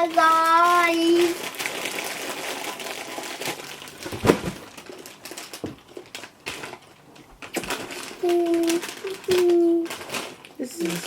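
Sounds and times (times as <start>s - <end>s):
snack bags crinkling: 0.0s - 11.0s.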